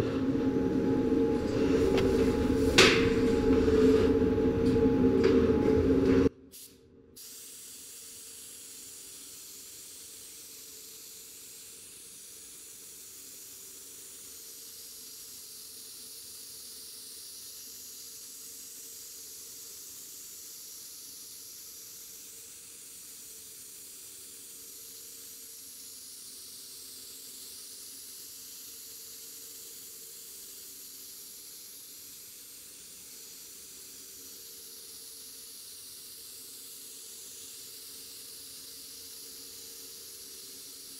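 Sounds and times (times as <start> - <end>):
spray gun hissing: 6.5 - 40.9.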